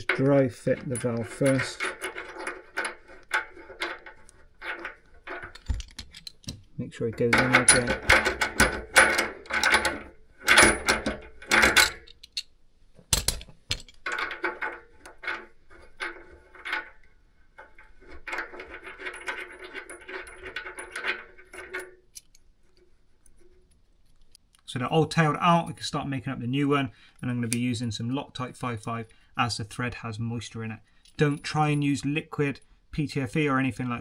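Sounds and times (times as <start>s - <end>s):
metal fittings clinking and scraping: 0.0s - 12.5s, 13.1s - 24.4s, 27.1s - 32.6s.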